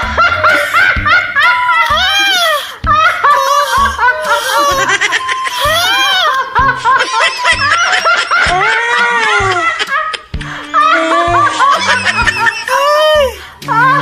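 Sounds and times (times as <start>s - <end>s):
music with steady beat: 0.0s - 8.8s, 9.4s - 13.9s
people laughing: 0.0s - 14.0s.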